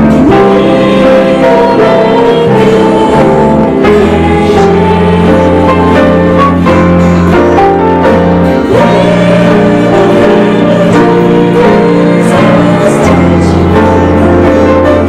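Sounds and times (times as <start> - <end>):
worship band playing slow song: 0.0 - 15.0.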